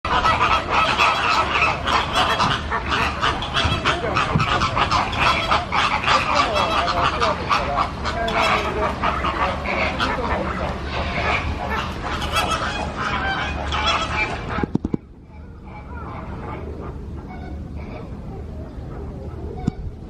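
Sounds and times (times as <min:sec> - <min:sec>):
flamingos calling: 0:00.1 - 0:20.0.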